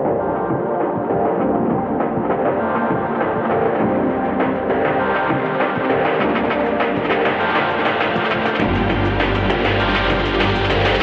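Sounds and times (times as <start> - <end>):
background music with deep bass: 0.0 - 11.0.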